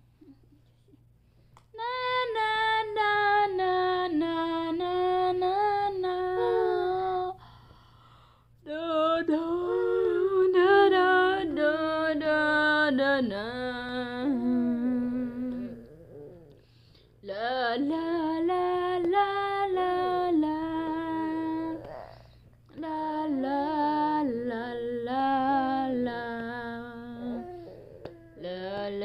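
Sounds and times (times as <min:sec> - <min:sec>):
woman humming: 0:03.4 - 0:07.4, 0:08.7 - 0:16.6, 0:17.3 - 0:29.0.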